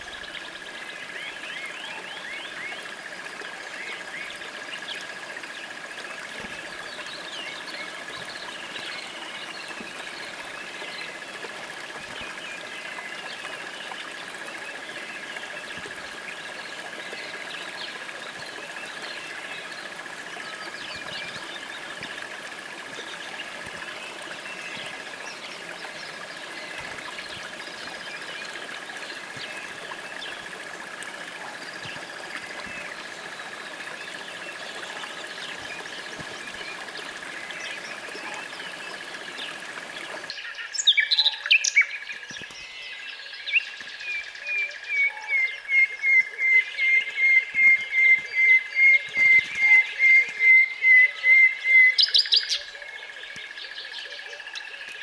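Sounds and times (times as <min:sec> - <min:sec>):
trickling stream: 0:00.0 - 0:55.0
small birds chirping: 0:03.7 - 0:55.0.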